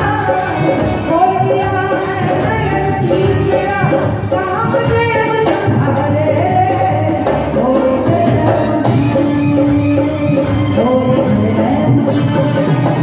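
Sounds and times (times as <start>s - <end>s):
instrumental accompaniment: 0.0s - 13.0s
percussion beat: 0.0s - 13.0s
woman singing folk song: 0.0s - 13.0s.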